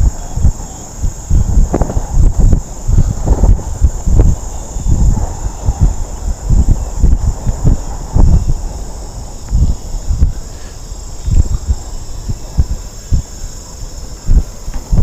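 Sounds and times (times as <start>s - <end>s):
crickets chirping: 0.0s - 15.0s
wind buffeting microphone: 0.0s - 15.0s.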